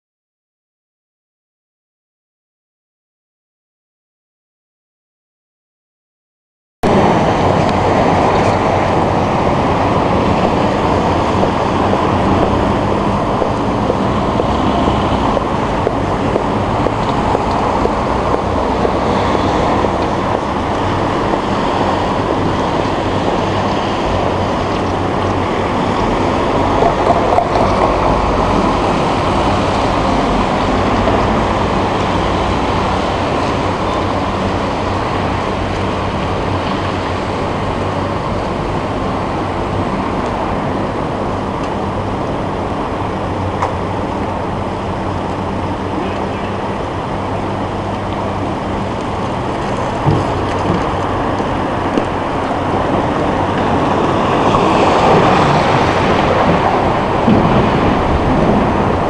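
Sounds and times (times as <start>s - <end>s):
wind blowing across microphone: 6.8s - 59.0s.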